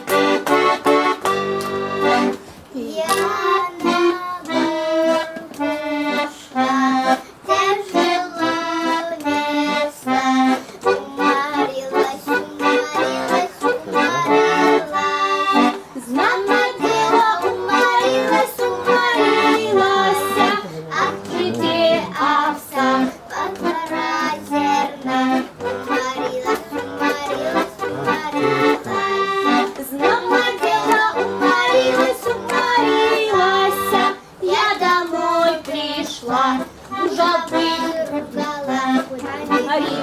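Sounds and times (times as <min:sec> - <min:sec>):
accordion: 0:00.0 - 0:40.0
girl singing a folk song: 0:00.0 - 0:40.0.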